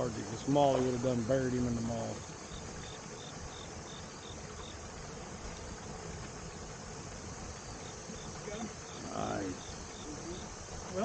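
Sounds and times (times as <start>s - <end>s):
insects chirping: 0.0s - 11.0s
steady hiss: 0.0s - 11.0s.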